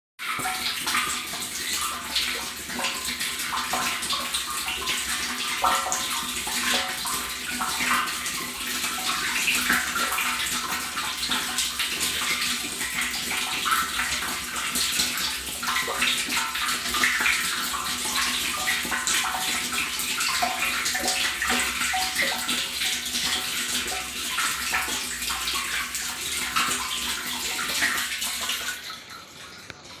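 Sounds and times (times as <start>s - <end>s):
water running: 0.2s - 30.0s.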